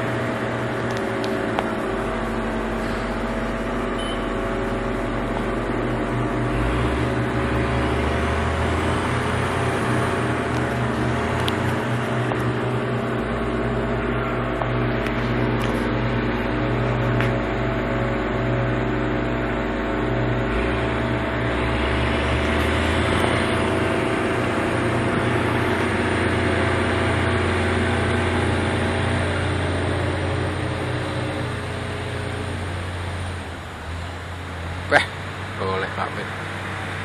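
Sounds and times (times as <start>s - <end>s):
thin high whine: 0.0s - 35.3s
heavy diesel engine running: 0.0s - 37.0s.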